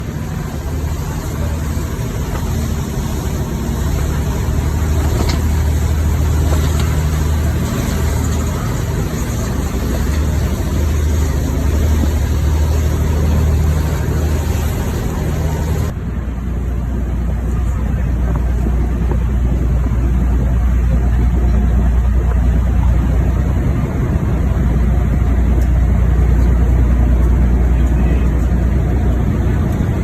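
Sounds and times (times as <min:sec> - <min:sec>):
constant rushing noise: 0:00.0 - 0:30.0
engine humming: 0:00.0 - 0:30.0.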